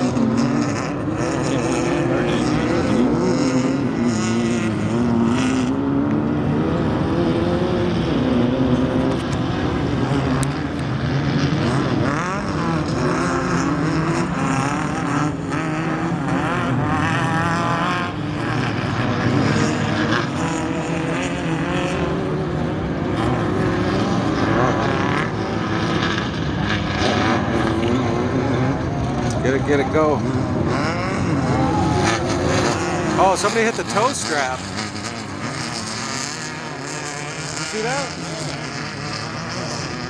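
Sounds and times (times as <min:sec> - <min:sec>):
race engines revving past: 0:00.0 - 0:40.0.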